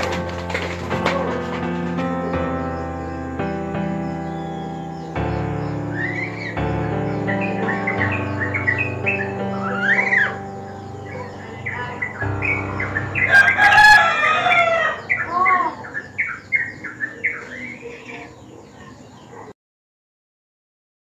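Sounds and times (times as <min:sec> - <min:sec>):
birds chirping and calling: 0:00.0 - 0:19.5.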